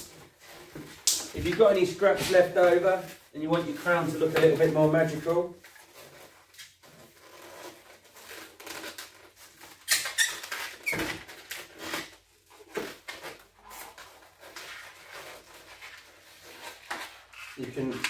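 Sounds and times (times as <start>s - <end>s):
balloons squeaking and rubbing: 0.0s - 18.0s.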